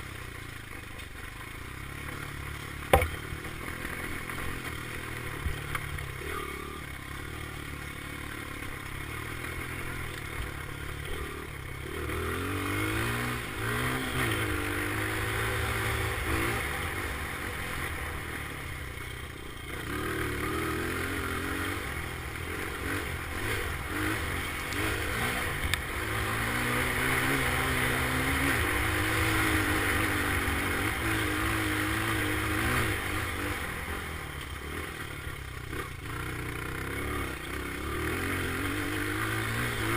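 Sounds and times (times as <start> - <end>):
dirt bike engine revving: 1.9 - 39.9.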